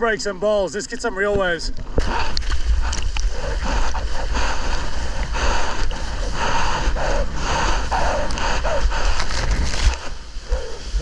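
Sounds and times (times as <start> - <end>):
wind rumble on microphone: 1.4 - 11.0.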